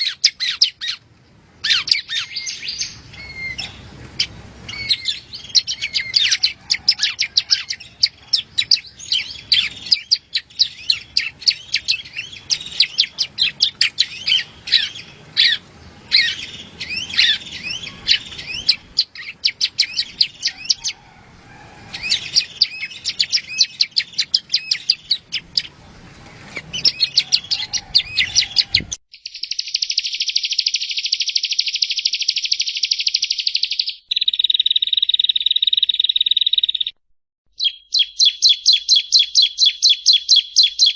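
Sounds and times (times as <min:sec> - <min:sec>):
bird chirping high phrases: 0:00.0 - 0:01.0, 0:01.6 - 0:21.0, 0:21.9 - 0:25.8, 0:26.6 - 0:40.9.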